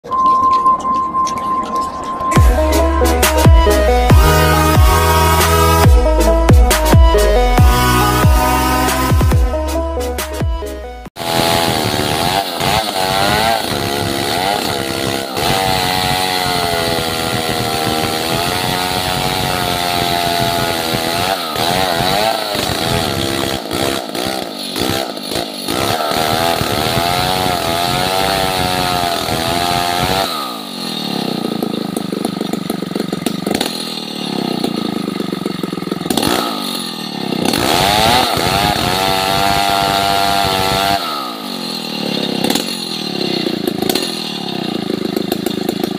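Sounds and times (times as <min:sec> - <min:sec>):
chainsaw cutting a log: 0:02.4 - 0:09.8, 0:11.2 - 0:45.9.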